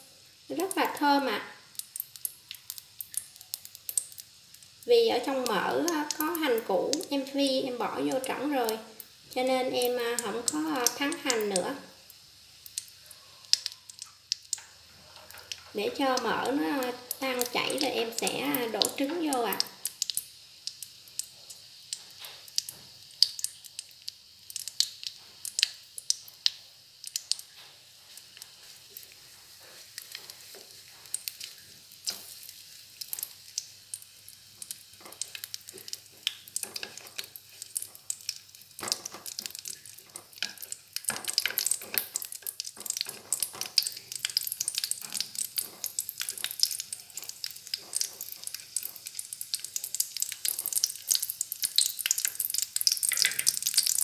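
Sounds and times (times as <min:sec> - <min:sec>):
fat sizzling and popping in a pan: 0:00.0 - 0:54.0.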